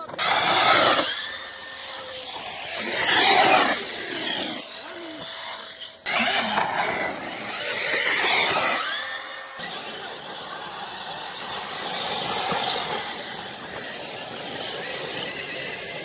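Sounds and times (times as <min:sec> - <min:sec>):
rc car motor whine: 0:00.0 - 0:16.0
tyres on dirt: 0:00.0 - 0:16.0.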